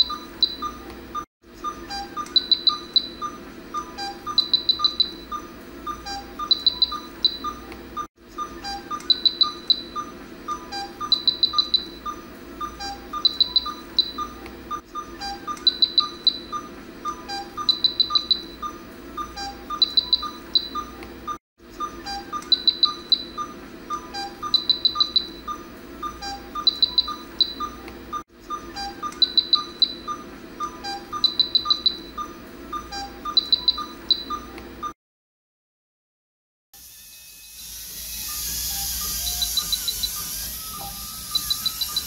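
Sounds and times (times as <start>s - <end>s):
looping music with ticking beat: 0.0s - 35.0s, 38.8s - 42.0s
cricket-like chirping trills: 1.6s - 7.6s, 8.4s - 20.9s, 21.8s - 27.8s, 28.5s - 34.4s, 36.8s - 42.0s.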